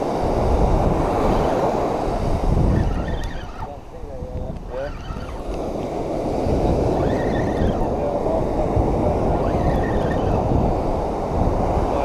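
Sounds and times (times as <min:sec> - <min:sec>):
ocean surf on beach: 0:00.0 - 0:12.0
wind rumbling on microphone: 0:00.0 - 0:12.0.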